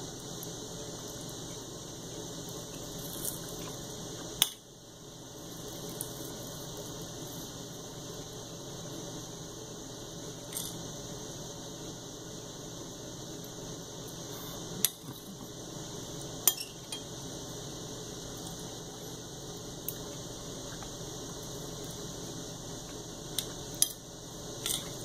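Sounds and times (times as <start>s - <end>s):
room hum: 0.0s - 25.0s.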